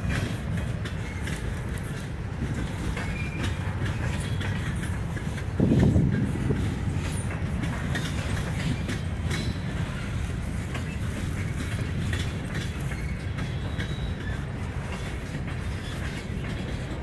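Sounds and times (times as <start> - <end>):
rail joint clicks: 0.0 - 17.0
train wheels rumbling on rail: 0.0 - 17.0.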